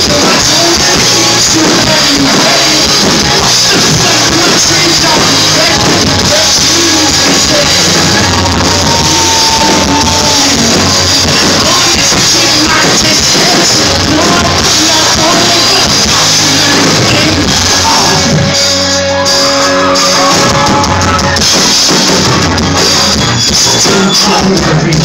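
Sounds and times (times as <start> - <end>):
live rock band playing loudly: 0.0 - 25.0.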